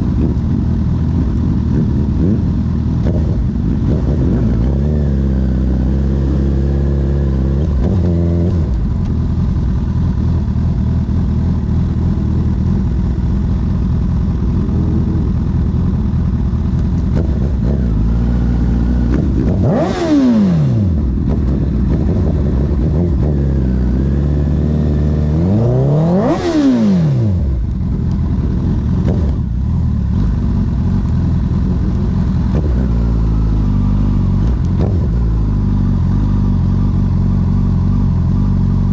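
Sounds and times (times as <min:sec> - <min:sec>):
motorcycle engine revving: 0:00.0 - 0:38.9
motorcycle engine running: 0:00.0 - 0:38.9.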